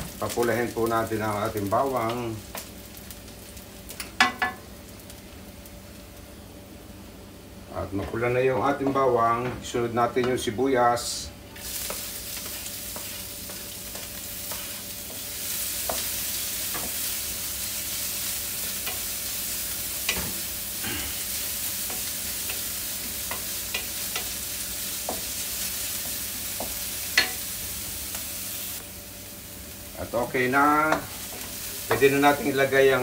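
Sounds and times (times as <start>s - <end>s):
garlic and onion sizzling in oil: 0.0s - 9.1s, 10.1s - 33.0s.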